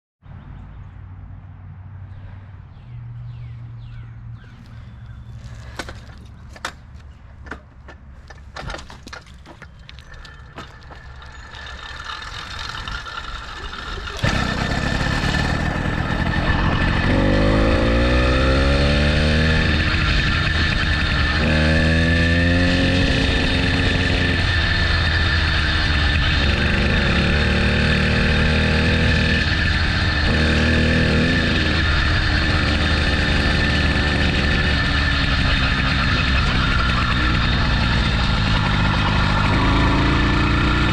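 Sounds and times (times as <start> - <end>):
motorbike engine rumbling and revving: 2.9 - 40.9.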